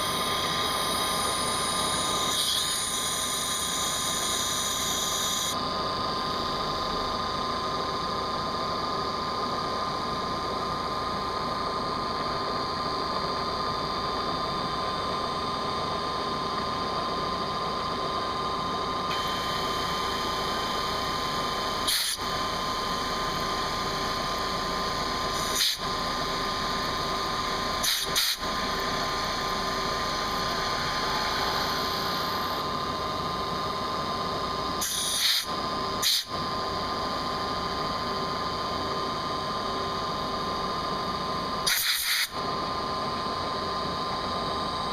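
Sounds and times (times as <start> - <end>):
milling machine spindle whine: 0.0 - 44.9.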